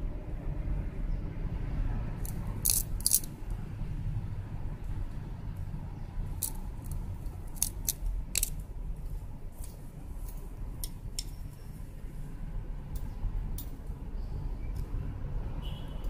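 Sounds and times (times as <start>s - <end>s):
steady low rumble: 0.0s - 15.5s.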